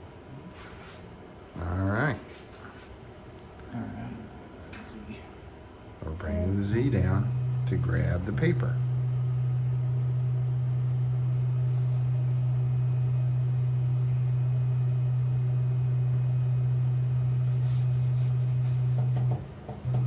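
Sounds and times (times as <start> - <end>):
mill axis drive humming: 0.0 - 20.0.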